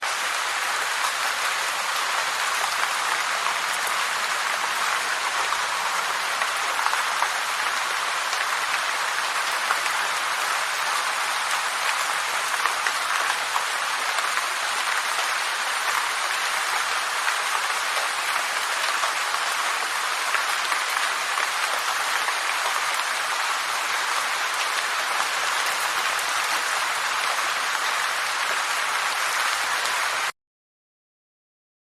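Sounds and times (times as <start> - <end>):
heavy rain falling: 0.0 - 30.3.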